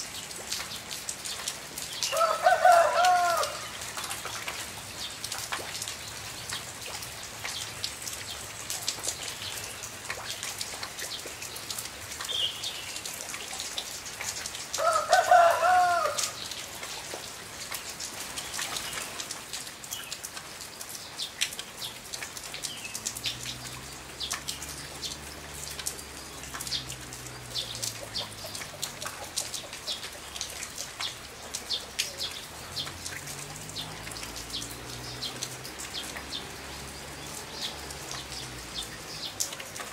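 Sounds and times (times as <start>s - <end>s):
rain pattering and dripping: 0.0s - 39.9s.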